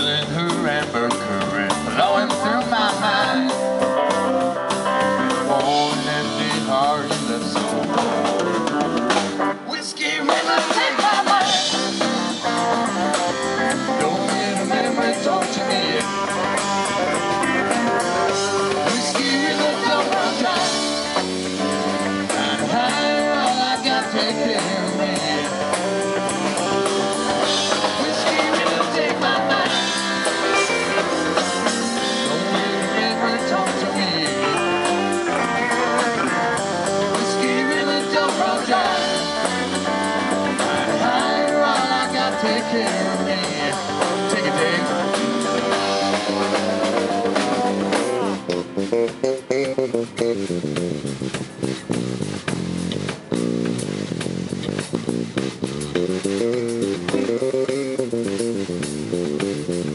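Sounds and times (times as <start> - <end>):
drum kit: 0.0 - 59.9
electric bass: 0.0 - 59.9
electric guitar: 0.0 - 59.9.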